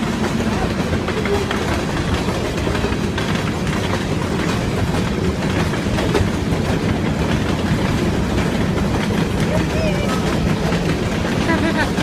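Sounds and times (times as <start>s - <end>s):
freight train rolling past: 0.0s - 12.0s
wheels clicking over rail joints: 0.0s - 12.0s.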